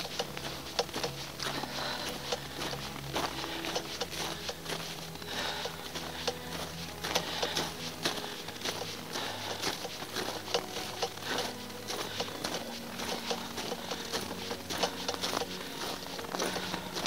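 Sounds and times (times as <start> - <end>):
footsteps crunching on snow: 0.0 - 17.0.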